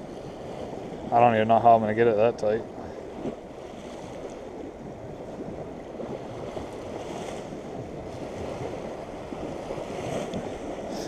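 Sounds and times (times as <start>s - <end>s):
waves splashing against seawall: 0.0s - 11.0s
wind noise on microphone: 0.0s - 11.0s.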